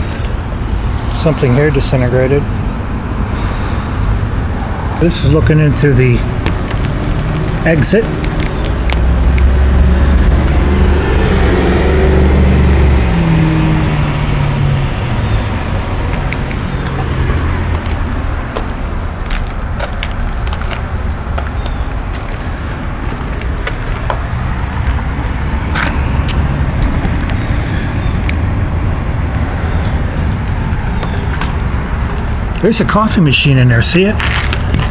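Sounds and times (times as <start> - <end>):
traffic rumble: 0.0 - 34.9
vehicle passing by: 0.0 - 34.9.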